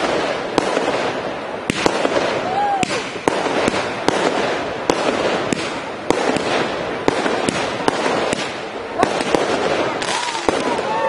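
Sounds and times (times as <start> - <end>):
continuous hiss: 0.0 - 11.0
fireworks bangs: 0.0 - 11.0.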